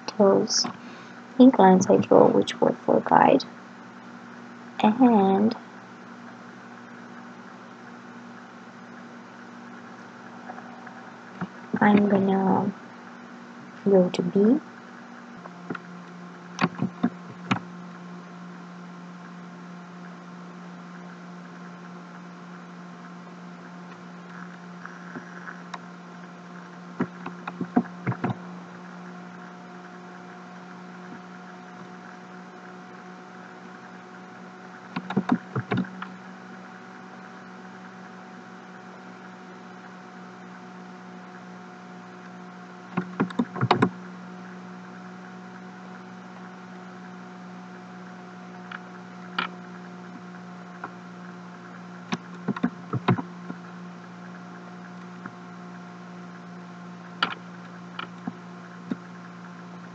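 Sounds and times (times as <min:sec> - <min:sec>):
steady electrical hum: 0:00.0 - 0:59.9.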